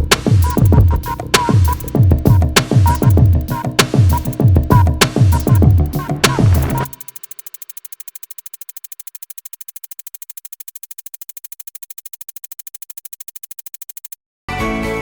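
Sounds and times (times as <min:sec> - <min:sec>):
rapid electronic ticking: 0:00.0 - 0:14.2.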